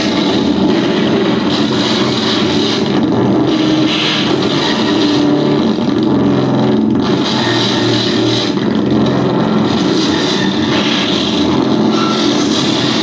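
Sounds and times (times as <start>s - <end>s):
electronic noise music: 0.0s - 13.0s
low droning tones: 0.0s - 13.0s.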